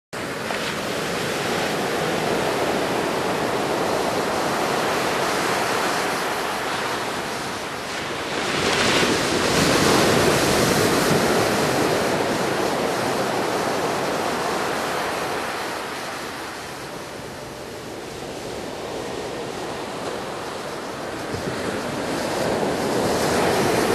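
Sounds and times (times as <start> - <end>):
ocean surf breaking on beach: 0.2 - 23.9
wind noise on microphone: 0.2 - 23.9.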